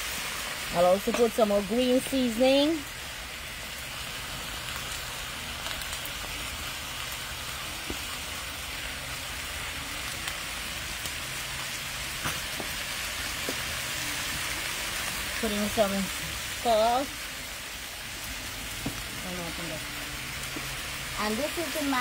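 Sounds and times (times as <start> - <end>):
meat sizzling in a pot: 0.0 - 22.0.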